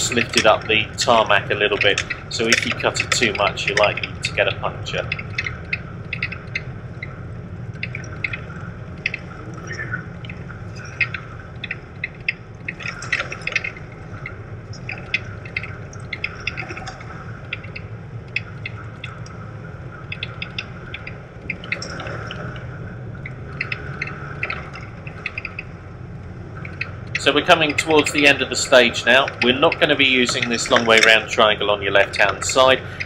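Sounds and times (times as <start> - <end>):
car engine and tyre drone: 0.0 - 33.0.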